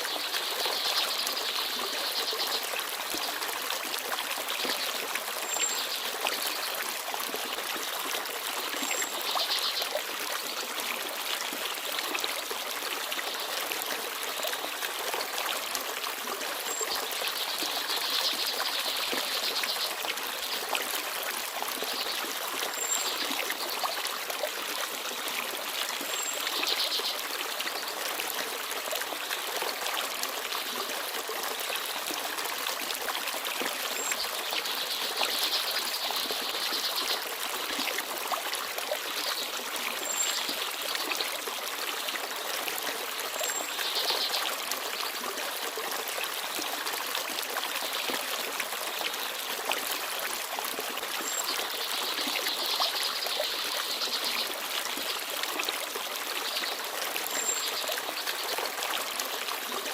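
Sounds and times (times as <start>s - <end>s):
stream babbling and trickling: 0.0s - 59.9s.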